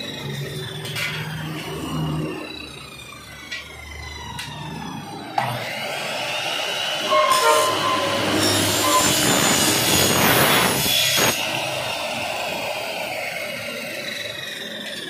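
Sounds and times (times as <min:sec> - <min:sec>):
miter saw motor whine: 0:00.0 - 0:15.0
saw blade cutting aluminum: 0:00.0 - 0:15.0.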